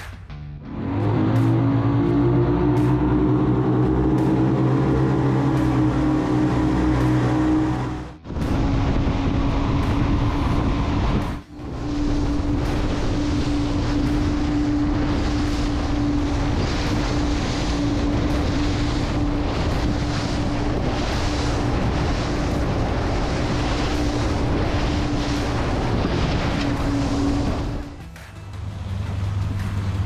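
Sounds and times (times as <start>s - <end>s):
water rushing along hull: 0.0s - 30.0s
outboard motors running: 0.6s - 30.0s
wind buffeting microphone: 0.8s - 28.0s.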